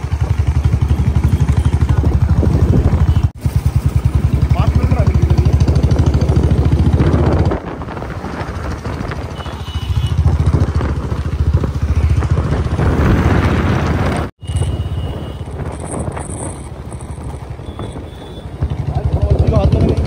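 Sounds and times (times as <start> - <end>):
wind rushing over microphone: 0.0 - 3.2, 4.1 - 20.0
vehicle engine rumble: 0.0 - 20.0.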